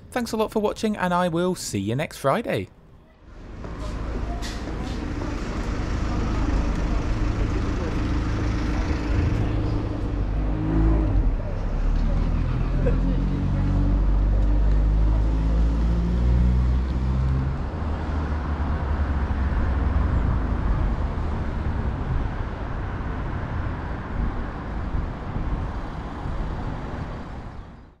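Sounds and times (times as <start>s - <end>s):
road traffic: 0.0s - 28.0s
vehicle engine humming: 3.2s - 27.8s.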